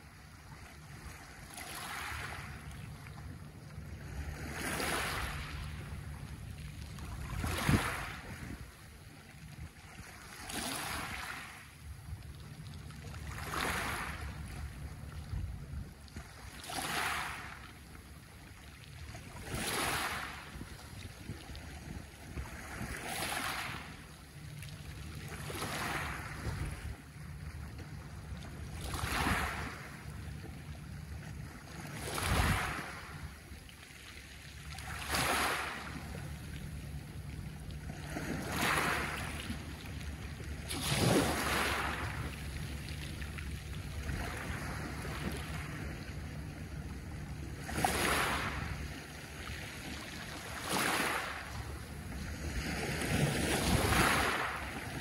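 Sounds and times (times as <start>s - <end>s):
waves washing over pebbles: 0.8s - 8.9s, 9.6s - 18.0s, 19.0s - 55.0s.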